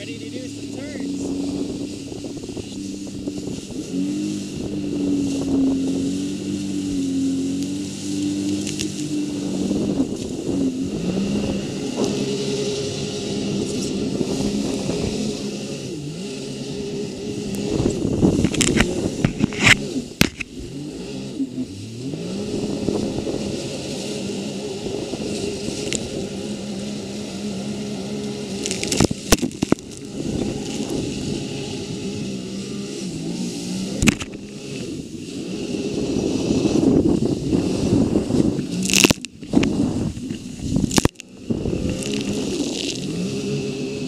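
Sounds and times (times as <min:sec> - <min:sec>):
watercraft engine running: 0:00.0 - 0:44.0.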